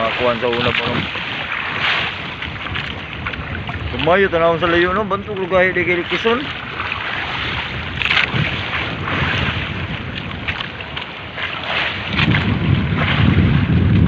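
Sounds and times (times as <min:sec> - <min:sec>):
motorboat engine rumbling: 0:00.0 - 0:14.0
water rushing past: 0:00.0 - 0:14.0
wind buffeting microphone: 0:00.0 - 0:14.0.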